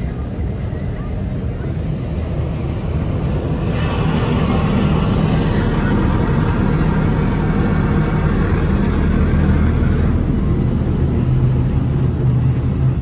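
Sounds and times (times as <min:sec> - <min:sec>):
car wash machinery rushing: 0:00.0 - 0:13.0
low hum: 0:00.0 - 0:13.0.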